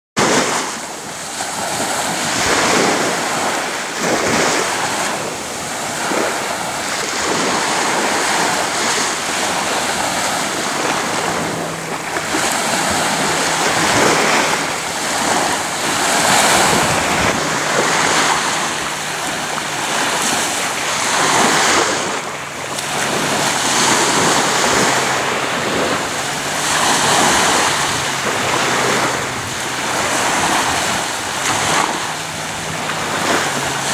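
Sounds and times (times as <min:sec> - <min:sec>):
waves breaking on sandy beach: 0:00.2 - 0:33.9.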